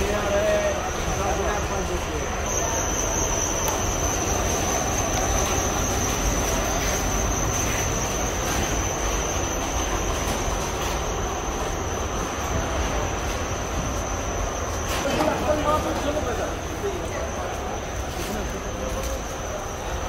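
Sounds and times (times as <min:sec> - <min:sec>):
high-pitched whine: 0:00.0 - 0:20.0
mechanical din of market hall: 0:00.0 - 0:20.0.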